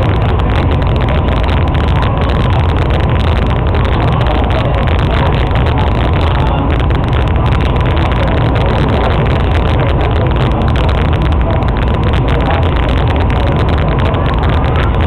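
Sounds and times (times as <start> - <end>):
ferry engine and water rumble: 0.0 - 15.0.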